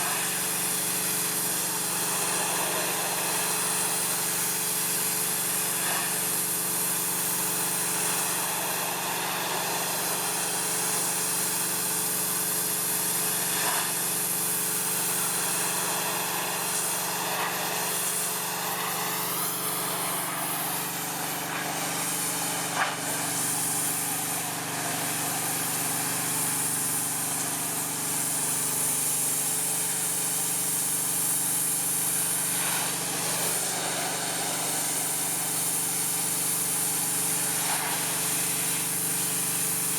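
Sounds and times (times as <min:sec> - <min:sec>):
pressure washer engine running: 0:00.0 - 0:39.9
water jet hissing on wood: 0:00.0 - 0:39.9.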